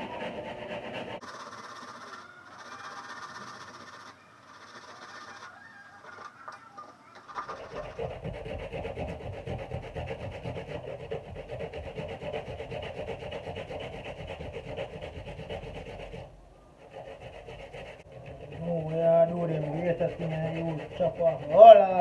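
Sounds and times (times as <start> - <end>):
coconut grating rasps: 0.0 - 6.5, 7.2 - 22.0.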